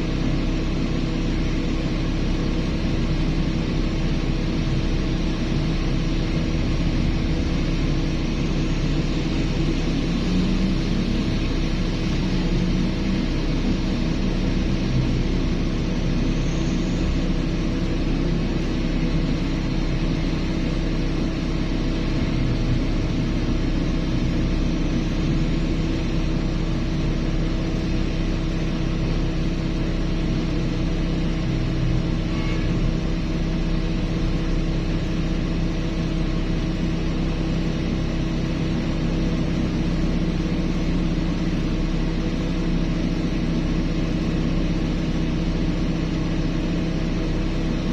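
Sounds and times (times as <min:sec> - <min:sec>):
heavy diesel engines droning: 0:00.0 - 0:47.9.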